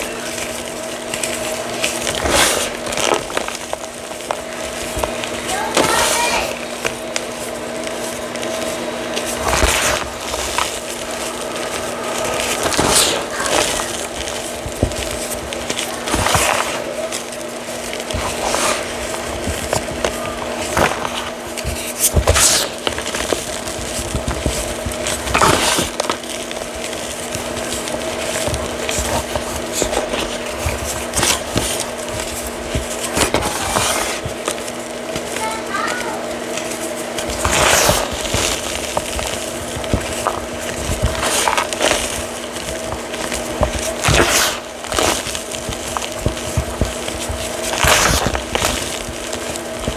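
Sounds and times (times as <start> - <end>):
chalk crunching: 0.0 - 49.9
steady background hum: 0.0 - 49.9.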